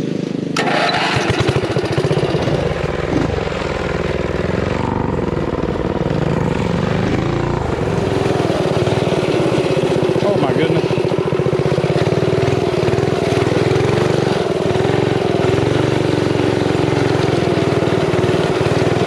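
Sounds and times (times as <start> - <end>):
small engine running hard: 0.0 - 19.0.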